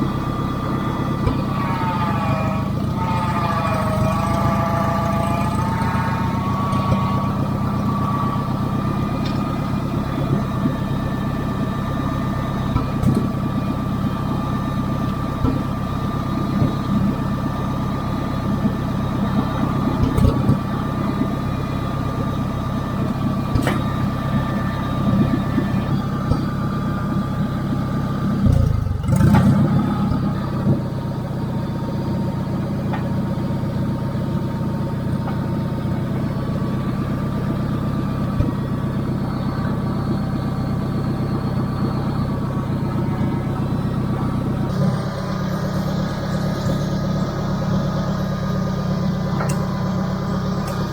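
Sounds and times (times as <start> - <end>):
heavy equipment engine idling: 0.0 - 50.9.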